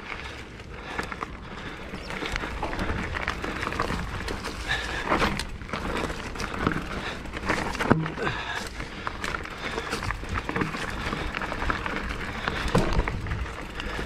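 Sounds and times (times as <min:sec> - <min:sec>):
bike knocking and rattling: 0:00.0 - 0:14.0
bike tyres rolling over rock: 0:00.0 - 0:14.0.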